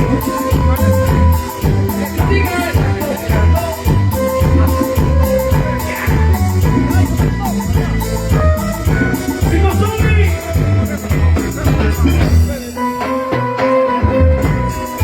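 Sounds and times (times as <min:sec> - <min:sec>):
cumbia band music: 0:00.0 - 0:15.0.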